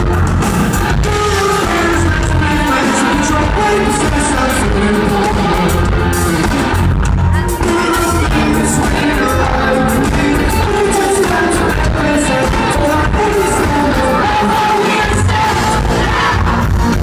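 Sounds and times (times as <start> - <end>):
live pop-rock band: 0.0 - 17.0
person singing lead vocal: 0.0 - 17.0.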